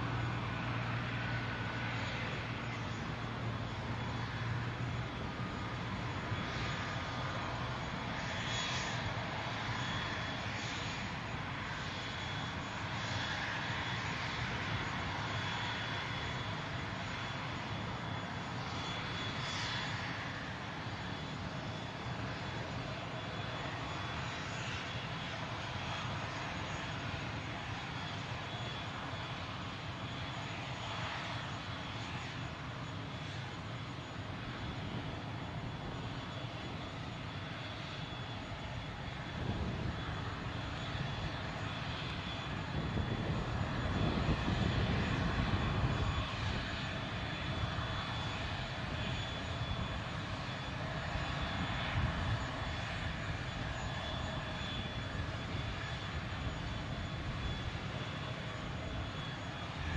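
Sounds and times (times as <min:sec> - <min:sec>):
jet engines rumbling with whine: 0:00.0 - 0:59.9.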